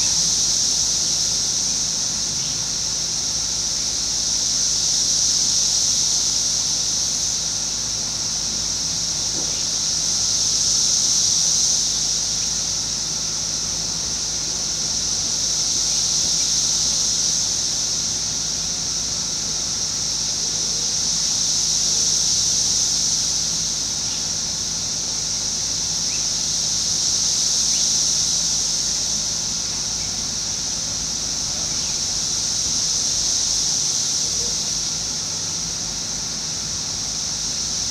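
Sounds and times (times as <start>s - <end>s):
cicada chorus whine: 0.0s - 37.9s.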